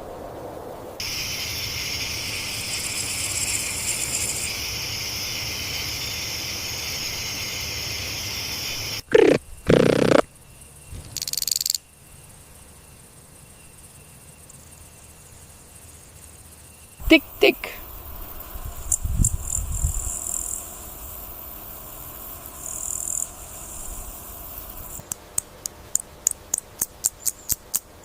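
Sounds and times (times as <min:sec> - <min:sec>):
insects trilling: 0:01.0 - 0:25.2, 0:25.9 - 0:27.8.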